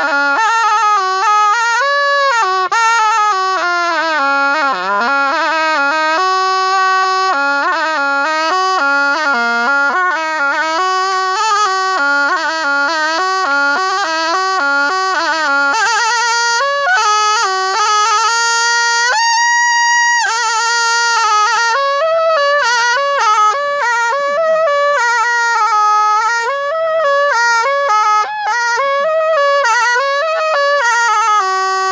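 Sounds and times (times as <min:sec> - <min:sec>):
reed oboe melody: 0:00.0 - 0:31.9.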